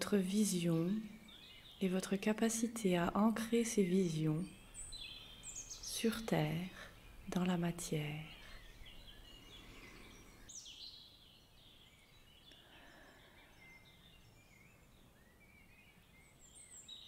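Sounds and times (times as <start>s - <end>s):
faint birdsong chirps and whistles: 0.0s - 17.0s.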